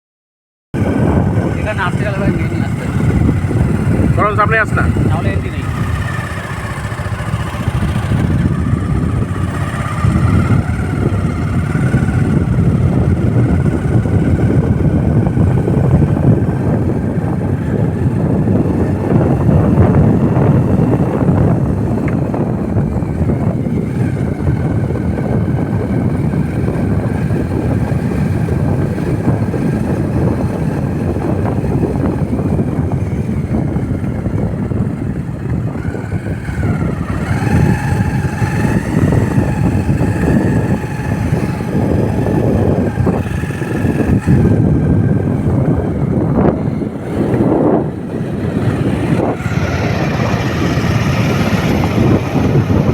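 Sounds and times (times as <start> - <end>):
motorcycle engine rumbling: 0.8 - 52.9.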